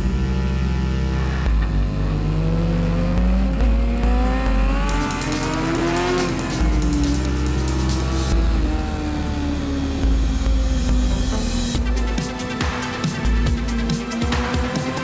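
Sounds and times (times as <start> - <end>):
background music with bass line: 0.0 - 15.0
racing motorcycle engine accelerating: 0.0 - 15.0.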